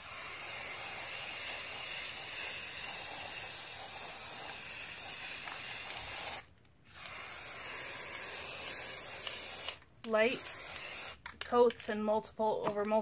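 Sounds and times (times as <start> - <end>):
spray paint can hissing: 0.0 - 11.3.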